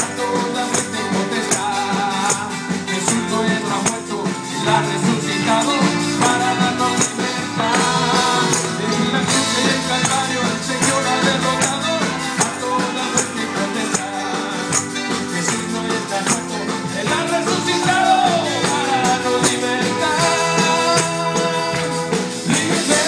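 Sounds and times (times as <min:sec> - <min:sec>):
tambourines jingling: 0:00.0 - 0:23.0
upbeat live band music: 0:00.0 - 0:23.0.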